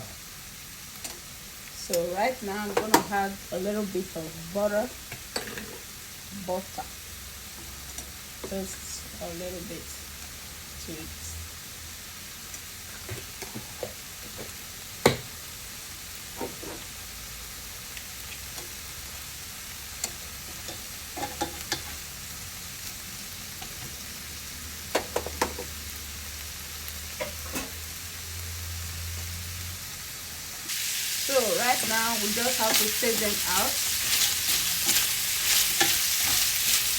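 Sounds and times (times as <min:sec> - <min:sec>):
shrimp sizzling in a frying pan: 0:00.0 - 0:36.9.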